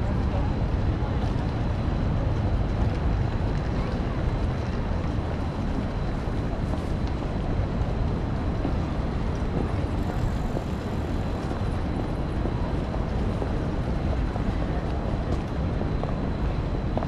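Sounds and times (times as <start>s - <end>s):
city street ambience: 0.0s - 17.0s.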